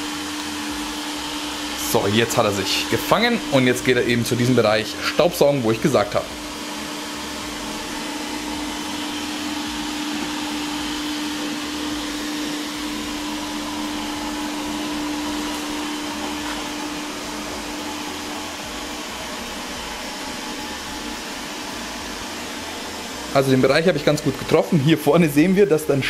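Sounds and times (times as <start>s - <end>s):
robot vacuum cleaner whirring: 0.0s - 26.0s.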